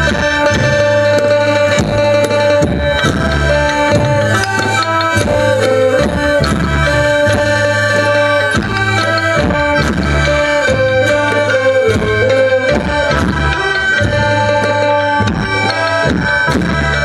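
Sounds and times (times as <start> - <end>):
folk band melody: 0.0 - 17.0
steady drum beat: 0.0 - 17.0.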